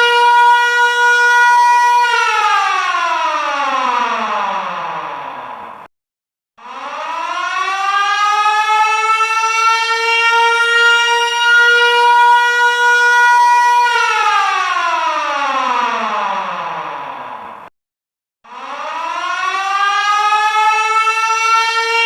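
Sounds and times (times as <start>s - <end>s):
wailing air raid siren: 0.0s - 5.9s, 6.6s - 17.6s, 18.5s - 22.0s.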